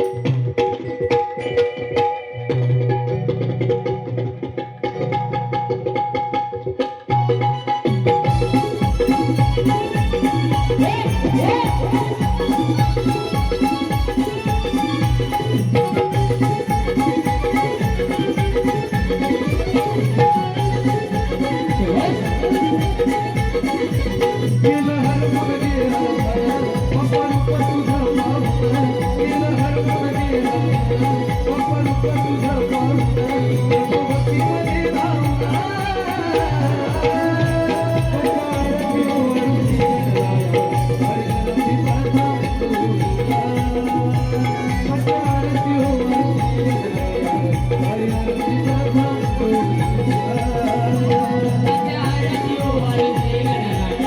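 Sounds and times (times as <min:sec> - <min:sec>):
hand drum beat: 0:00.0 - 0:54.0
melodic instruments: 0:08.2 - 0:54.0.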